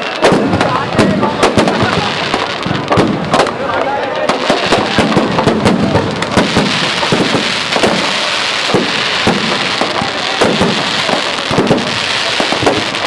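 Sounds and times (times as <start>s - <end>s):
firework bangs: 0.0s - 13.0s
firework crackle: 0.0s - 13.0s.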